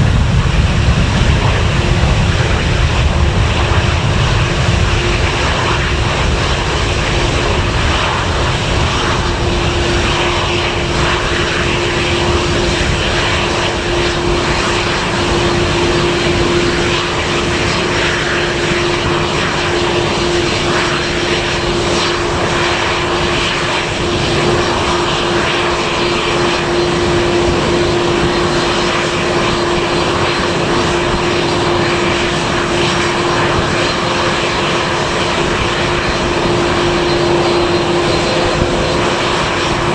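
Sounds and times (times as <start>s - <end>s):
aircraft engines running: 0.0s - 39.9s.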